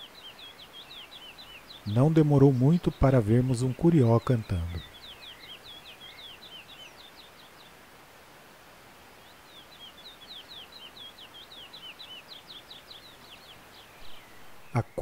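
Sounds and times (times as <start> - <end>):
finch singing whistled notes: 0.0 - 7.7, 9.5 - 15.0.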